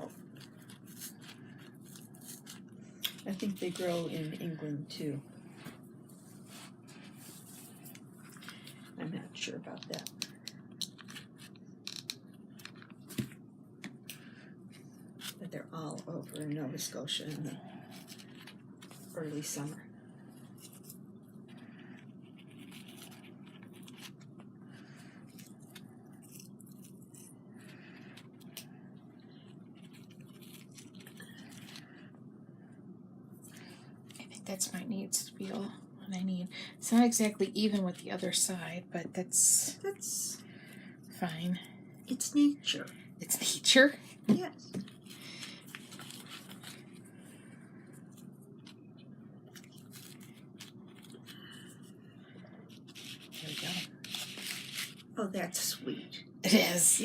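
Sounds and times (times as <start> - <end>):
soft rustles of craft pieces: 0.0 - 38.8, 39.9 - 55.3
steady low hum: 0.0 - 57.0.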